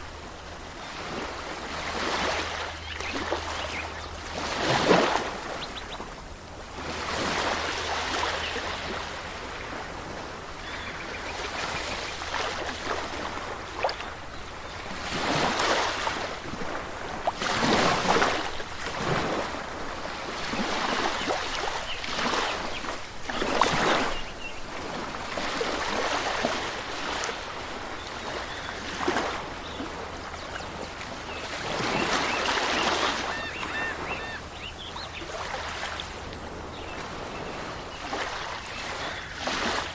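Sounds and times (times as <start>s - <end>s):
water washing in swells: 0.0s - 39.9s.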